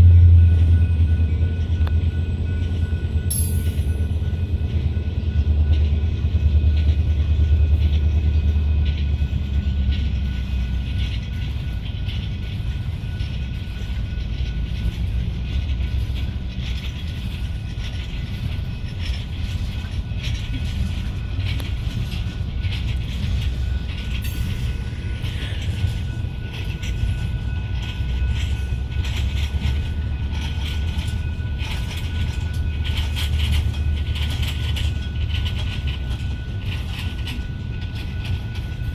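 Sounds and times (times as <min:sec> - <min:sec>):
train cars rumbling: 0:00.0 - 0:38.9
wheels clicking and rattling: 0:01.3 - 0:38.9.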